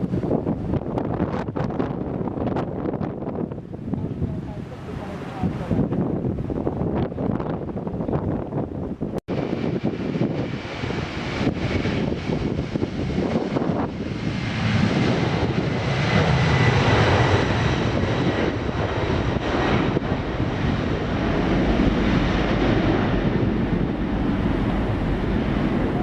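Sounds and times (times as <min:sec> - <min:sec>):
jet engines roaring: 0:00.0 - 0:26.0
wind on microphone: 0:00.0 - 0:26.0.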